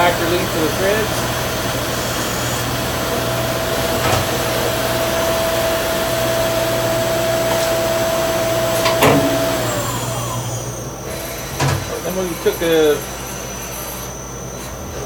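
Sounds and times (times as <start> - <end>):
lathe spindle whine: 0.0 - 15.0.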